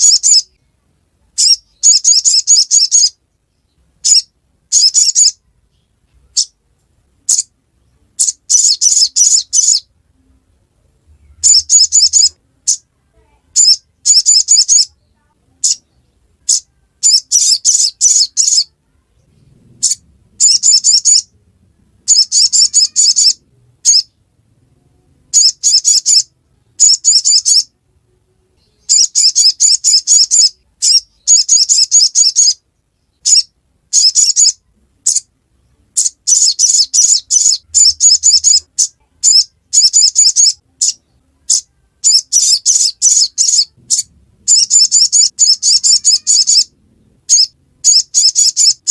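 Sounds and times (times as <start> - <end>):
bird twittering chatter: 0.0 - 0.6, 1.4 - 6.6, 7.3 - 9.9, 11.2 - 12.9, 13.6 - 18.7, 19.8 - 21.3, 22.0 - 24.2, 25.3 - 27.7, 28.6 - 35.3, 36.0 - 48.9.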